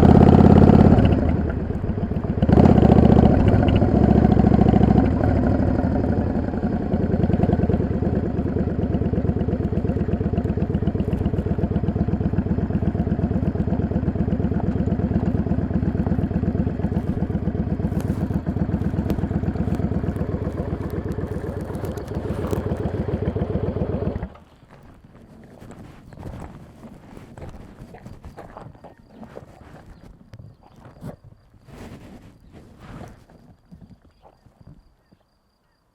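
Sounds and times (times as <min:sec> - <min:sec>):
motorcycle engine running: 0:00.0 - 0:31.1.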